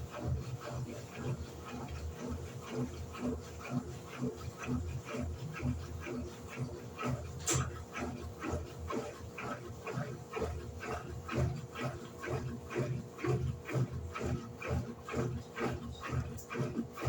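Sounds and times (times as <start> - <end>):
washing machine agitating: 0.0 - 17.0.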